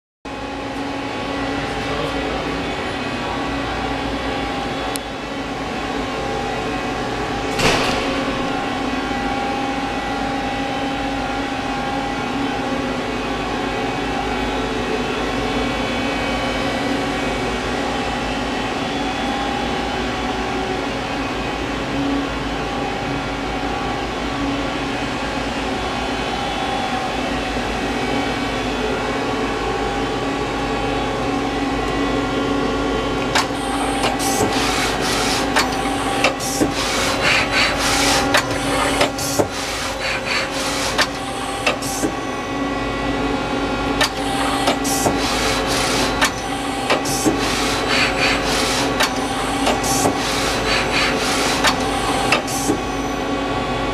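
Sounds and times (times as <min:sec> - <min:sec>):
machinery hum: 0:00.3 - 0:53.9.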